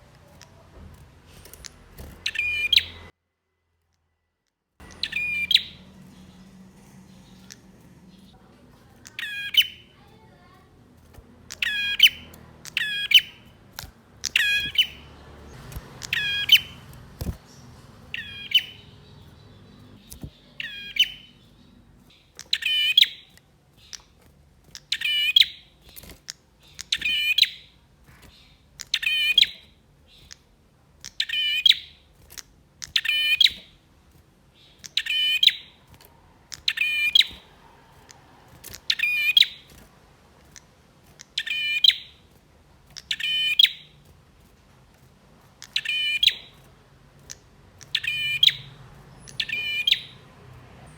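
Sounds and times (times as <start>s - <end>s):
bird chirping sharp notes: 0.0s - 3.1s, 4.8s - 30.4s, 31.1s - 32.1s, 32.8s - 33.8s, 34.6s - 39.9s, 40.5s - 42.3s, 42.9s - 44.0s, 45.6s - 50.9s.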